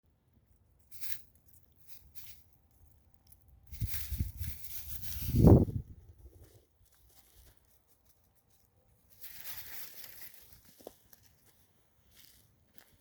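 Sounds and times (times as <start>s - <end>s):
cat rustling and crinkling: 0.7s - 13.0s.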